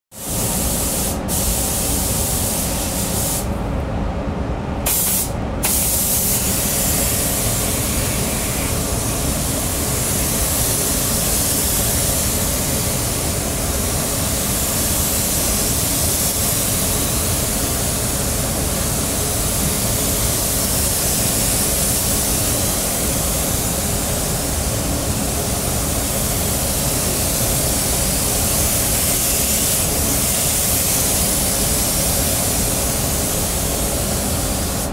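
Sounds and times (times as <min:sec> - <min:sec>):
paint spray gun hissing: 0:00.2 - 0:03.5, 0:04.9 - 0:34.9.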